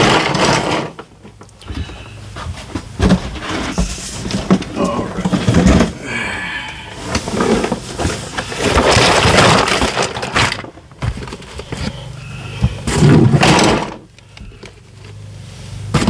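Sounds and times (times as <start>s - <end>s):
items rustling and clattering: 0.0s - 16.0s.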